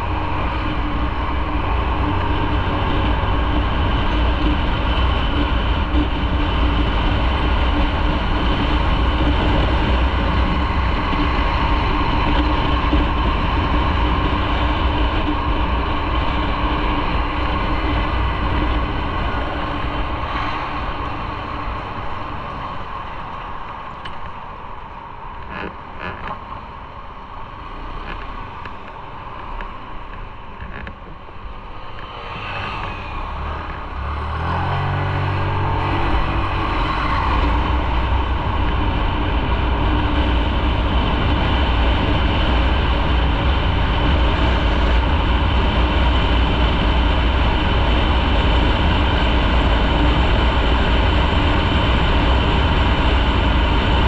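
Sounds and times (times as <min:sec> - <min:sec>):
motorcycle engine drone: 0:00.0 - 0:54.0
wind rush on microphone: 0:00.0 - 0:54.0.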